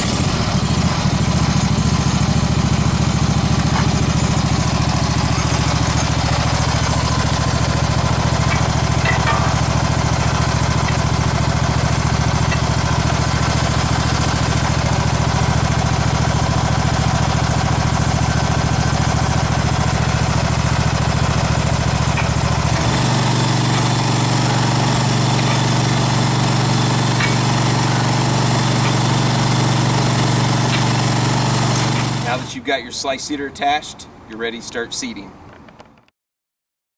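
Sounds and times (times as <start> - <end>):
aerator engine running: 0.0 - 33.0.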